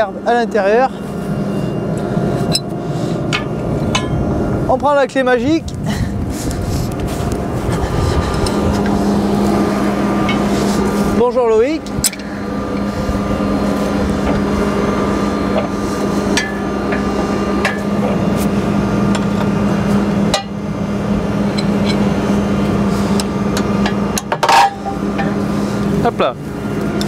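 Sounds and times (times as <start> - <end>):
tractor engine idling: 0.0 - 27.0.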